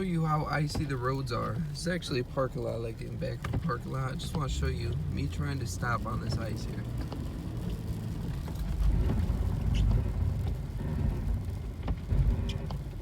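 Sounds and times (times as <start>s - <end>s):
truck rumbling: 0.0s - 13.0s.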